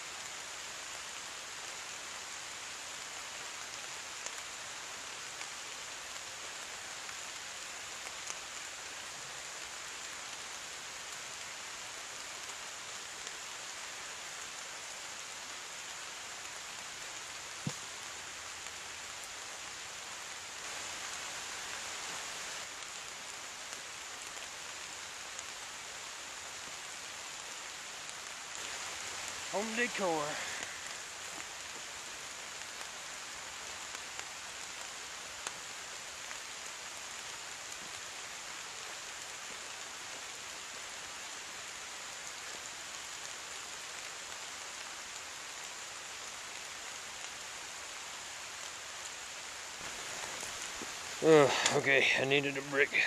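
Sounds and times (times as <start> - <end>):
rain falling in woods: 0.0 - 53.0.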